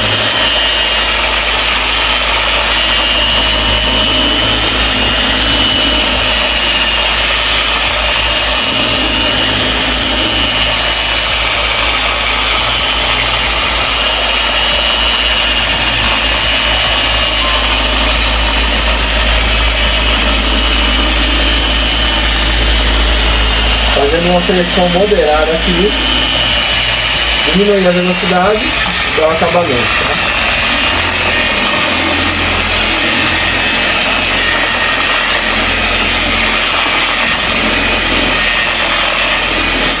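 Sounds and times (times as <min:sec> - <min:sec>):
car polisher motor whine: 0:00.0 - 0:40.0.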